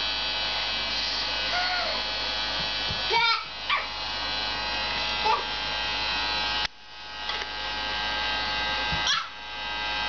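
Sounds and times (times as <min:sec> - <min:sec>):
small motor and fan whirring: 0:00.0 - 0:10.0.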